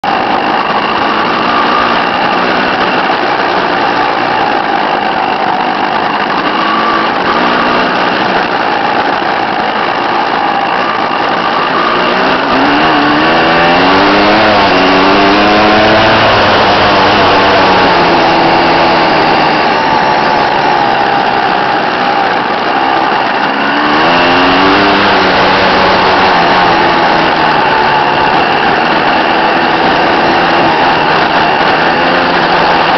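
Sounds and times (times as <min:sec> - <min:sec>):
dense rushing noise: 0:00.0 - 0:32.9
dirt bike engine revving: 0:00.0 - 0:32.9.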